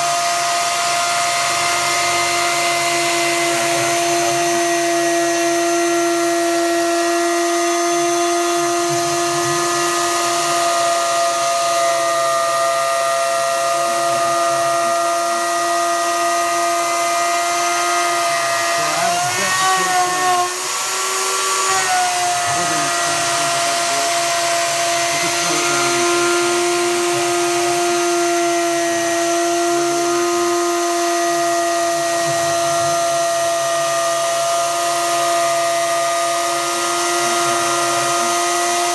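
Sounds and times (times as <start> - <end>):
router motor whining through plywood: 0.0 - 38.9.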